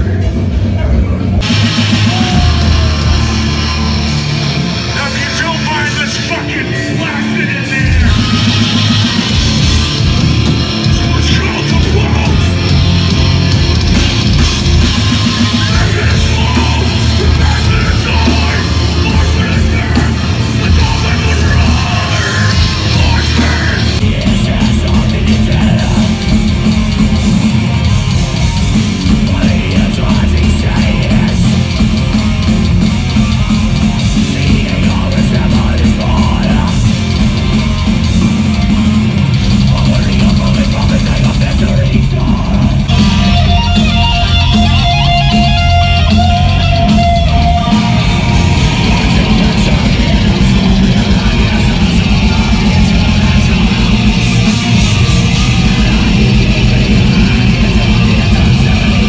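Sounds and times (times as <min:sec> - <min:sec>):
heavy metal music with vocals: 0:00.0 - 0:59.0.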